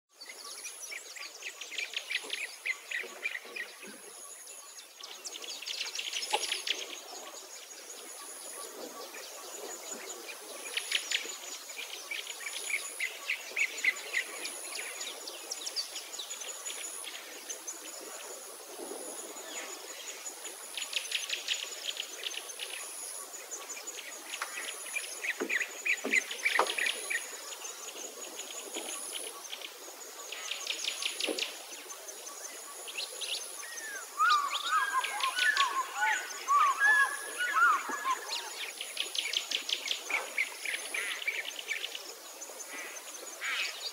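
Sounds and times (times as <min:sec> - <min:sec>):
birds chirping and trilling: 0:00.1 - 0:43.9.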